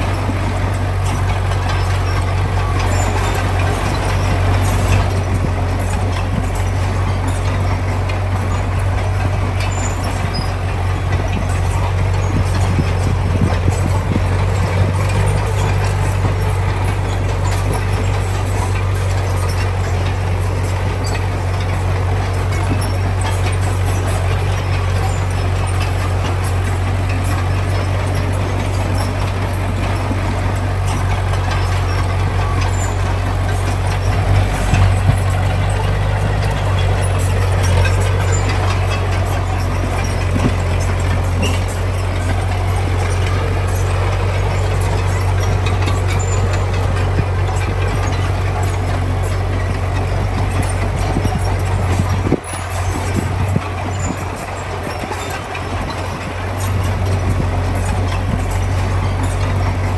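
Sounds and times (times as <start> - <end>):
diesel engine humming under load: 0.0 - 59.9
rough machinery clatter: 0.0 - 59.9.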